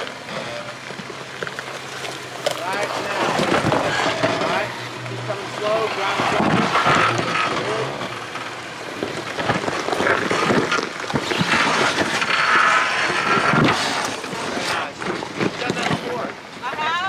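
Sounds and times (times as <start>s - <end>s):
tyres knocking and scraping stones: 0.0s - 16.8s
off-road vehicle engine running: 0.0s - 17.0s.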